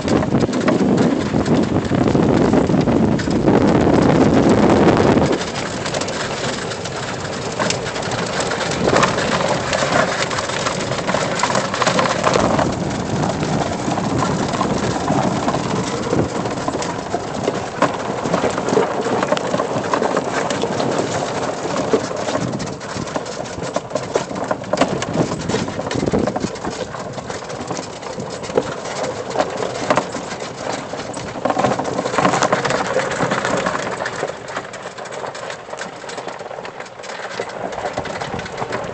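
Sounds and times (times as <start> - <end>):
golf cart rolling on dirt: 0.0 - 38.9
knocks and rattles over bumps: 0.0 - 38.9.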